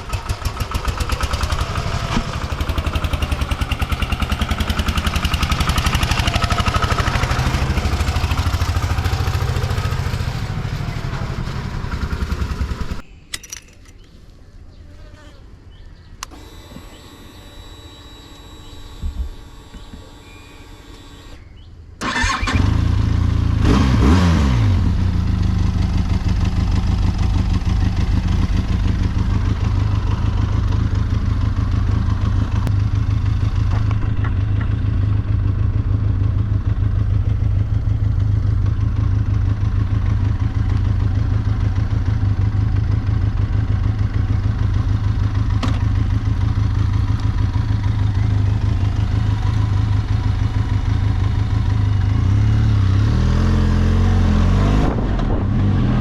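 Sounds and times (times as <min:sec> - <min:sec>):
motorcycle engine starting and idling: 0:00.0 - 0:14.0, 0:16.2 - 0:56.0.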